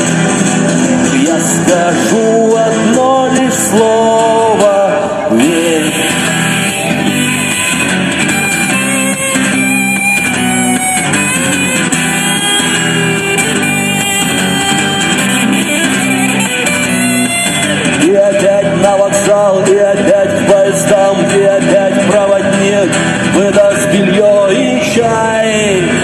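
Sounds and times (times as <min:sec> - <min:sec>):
guitar-driven rock music: 0:00.0 - 0:26.0.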